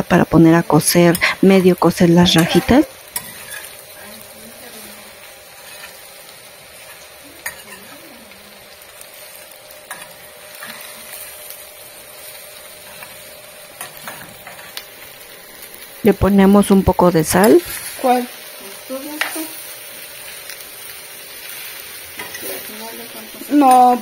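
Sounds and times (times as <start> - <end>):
vegetables sizzling in a pot: 0.0 - 24.0.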